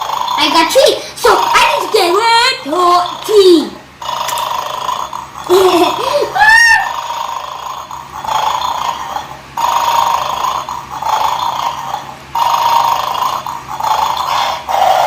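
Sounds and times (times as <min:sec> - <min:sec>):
toy electronic noise: 0:00.0 - 0:15.0.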